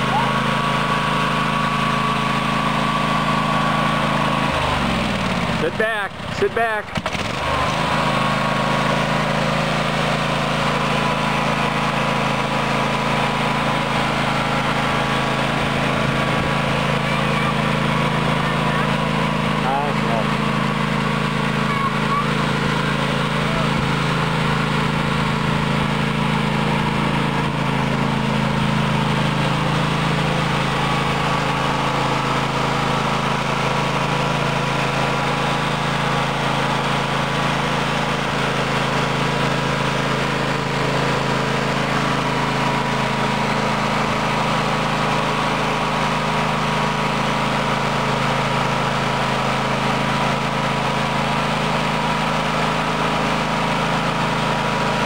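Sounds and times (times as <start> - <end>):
riding lawn mower engine: 0.0 - 55.0.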